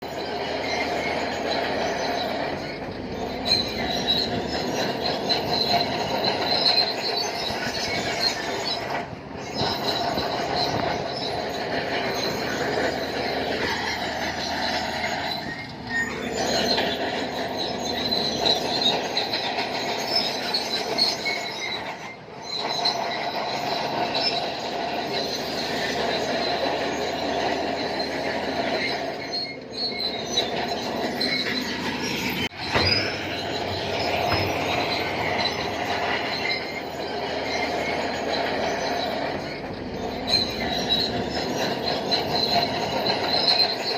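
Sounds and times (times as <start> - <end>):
bulldozer tracks squealing and clanking: 0.0 - 43.9
diesel engine running: 0.0 - 43.9.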